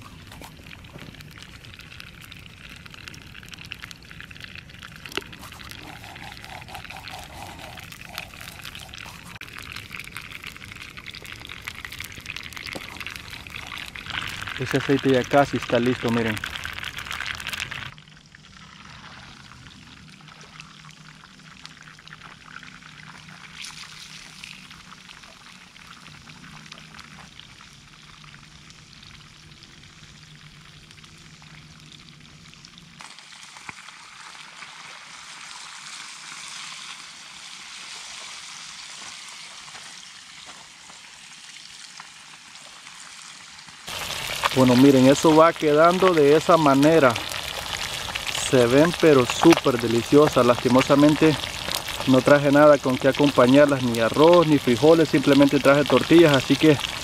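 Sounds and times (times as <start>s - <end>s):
fish frying in hot oil: 0.0s - 57.0s.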